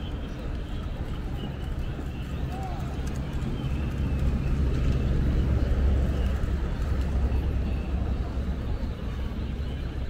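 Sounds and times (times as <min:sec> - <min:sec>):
murmur of distant voices: 0:00.0 - 0:10.0.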